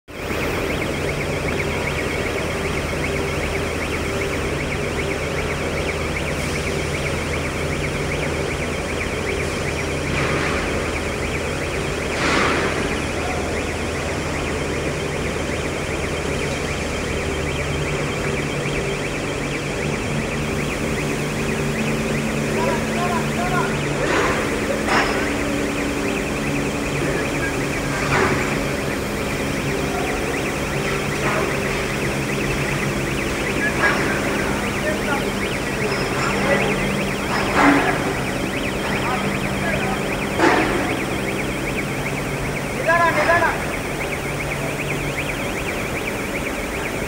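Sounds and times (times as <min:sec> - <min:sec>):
industrial furnace drone: 0:00.1 - 0:47.0.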